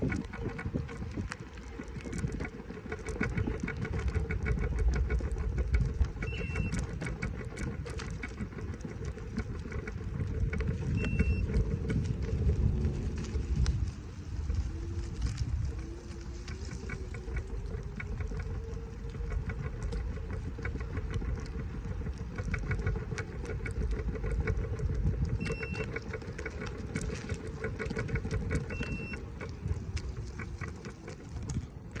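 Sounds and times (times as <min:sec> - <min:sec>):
road rumble: 0:00.0 - 0:32.0.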